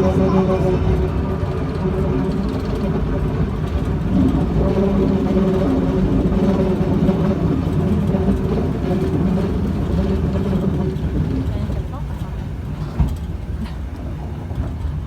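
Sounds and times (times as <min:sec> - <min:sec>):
train engine rumble: 0:00.0 - 0:15.0.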